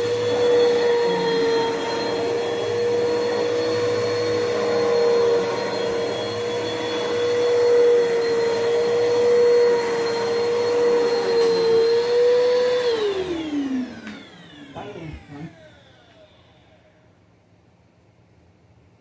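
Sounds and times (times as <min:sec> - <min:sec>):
vacuum cleaner running: 0:00.0 - 0:17.1.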